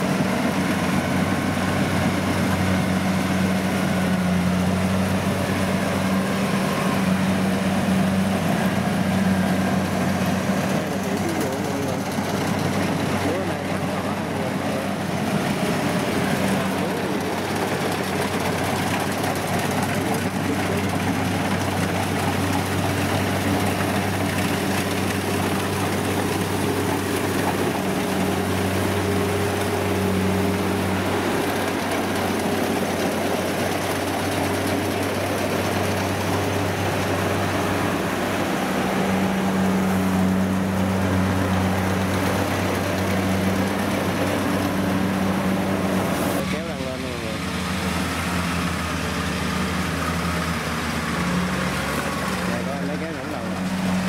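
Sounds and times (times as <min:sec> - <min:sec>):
diesel engine drone under load: 0:00.0 - 0:54.0
threshing machinery noise: 0:00.0 - 0:54.0.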